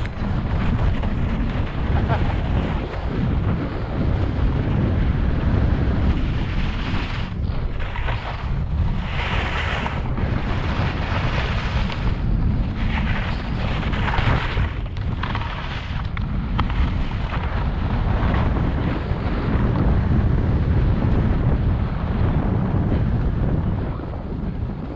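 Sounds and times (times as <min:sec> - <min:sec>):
skis scraping on snow: 0:00.0 - 0:20.5
wind buffeting microphone: 0:00.0 - 0:24.9.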